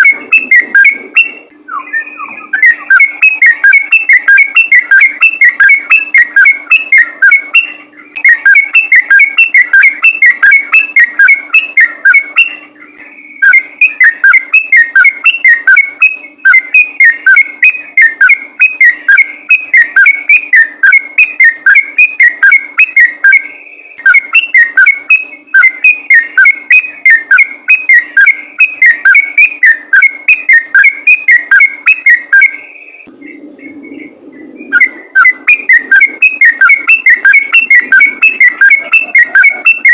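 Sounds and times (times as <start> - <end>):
bulbul singing rapid whistled song: 0.0 - 39.9.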